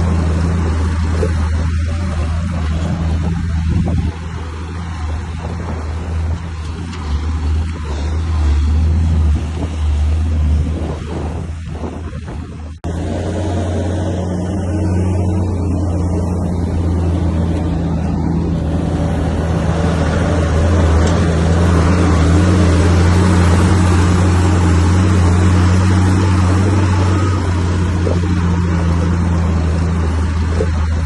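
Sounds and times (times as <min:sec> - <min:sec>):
diesel engine droning under load: 0:00.0 - 0:31.0.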